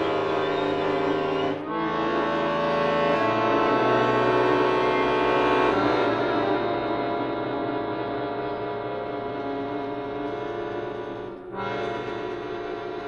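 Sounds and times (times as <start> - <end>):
chamber music with held chords: 0.0 - 13.0.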